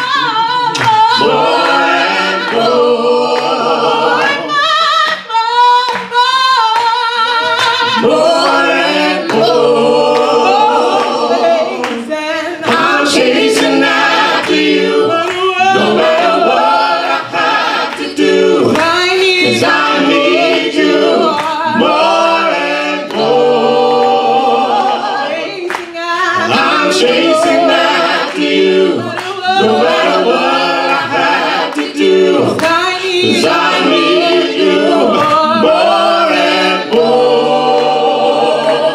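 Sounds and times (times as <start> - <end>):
vocal group singing a cappella: 0.0 - 38.9.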